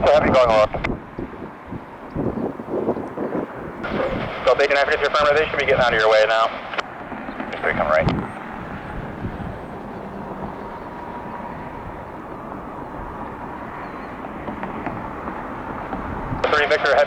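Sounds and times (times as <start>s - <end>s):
airliner jet engines: 0.0s - 17.0s.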